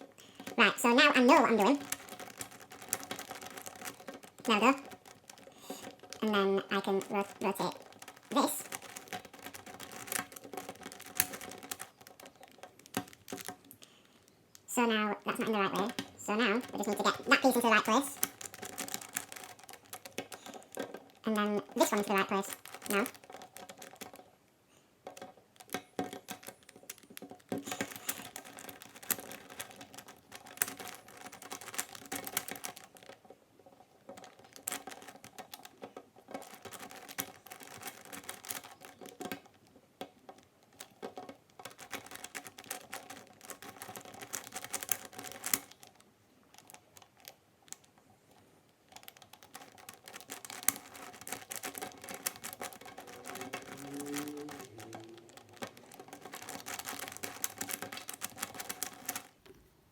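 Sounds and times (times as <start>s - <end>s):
plastic puzzle clicking: 0.0s - 59.6s.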